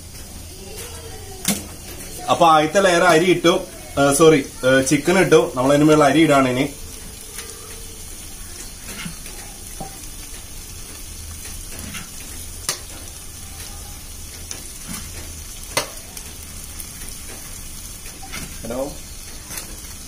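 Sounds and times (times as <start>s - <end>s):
pot sizzling hiss: 0.0s - 20.0s.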